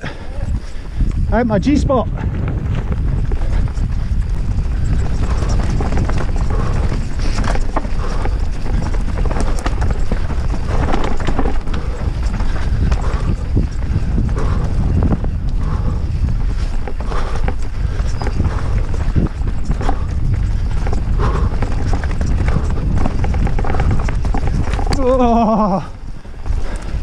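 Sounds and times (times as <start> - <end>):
tyres rumbling on dirt: 0.0 - 27.0
bike knocks and clatter: 2.2 - 15.4, 16.3 - 25.6.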